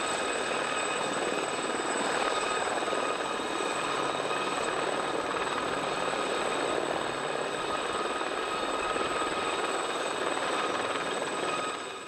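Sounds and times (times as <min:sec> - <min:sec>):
helicopter turbine and rotors: 0:00.0 - 0:12.0.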